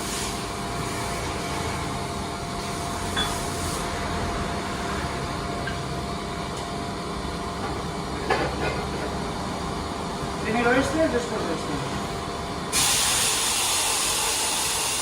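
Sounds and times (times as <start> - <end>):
workshop machinery hum: 0.0 - 15.0.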